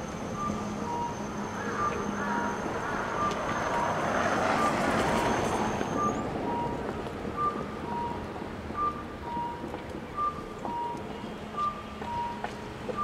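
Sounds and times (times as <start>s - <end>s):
street noise: 0.0s - 13.0s
two-tone electronic beep: 0.4s - 2.6s, 4.6s - 13.0s.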